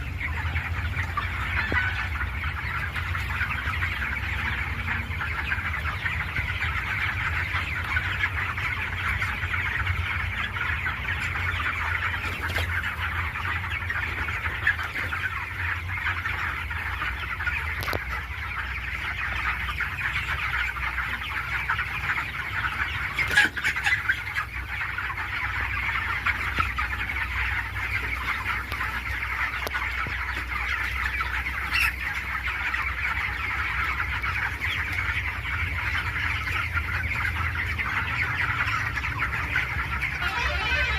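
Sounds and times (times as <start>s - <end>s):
chickens clucking and cheeping: 0.0s - 40.9s.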